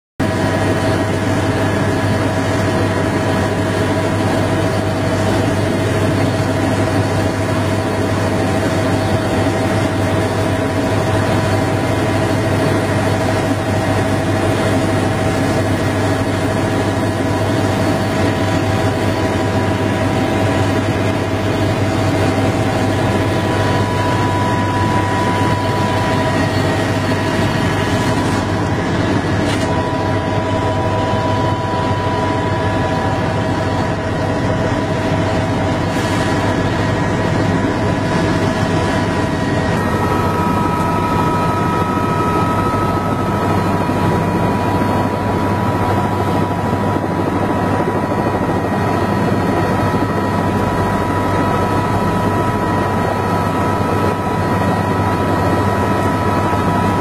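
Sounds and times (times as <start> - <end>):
helicopter engine and rotor: 0.2 - 57.0.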